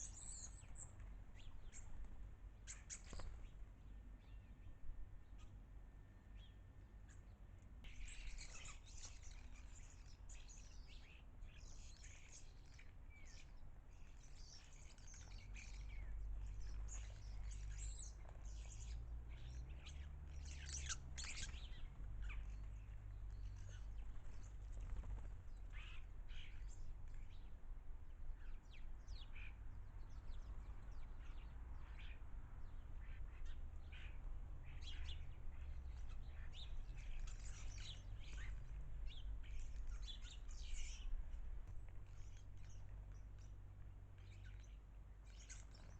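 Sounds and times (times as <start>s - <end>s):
birds chirping and twittering: 0.0s - 45.9s.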